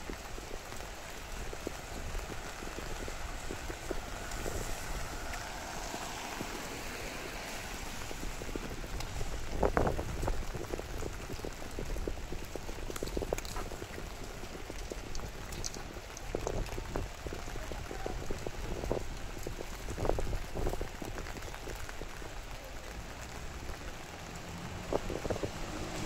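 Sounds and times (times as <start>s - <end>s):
drops ticking and tapping: 0.0s - 25.7s
steady rain: 0.0s - 26.0s.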